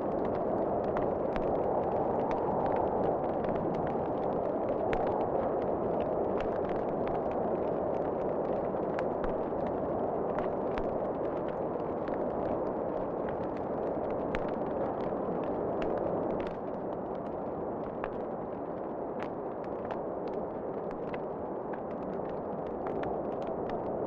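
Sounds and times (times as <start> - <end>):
wood fire crackling and popping: 0.1 - 24.0.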